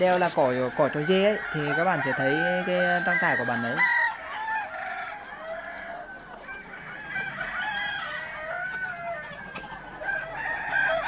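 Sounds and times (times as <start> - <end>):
chickens clucking: 0.0 - 11.0
roosters crowing: 0.0 - 11.0.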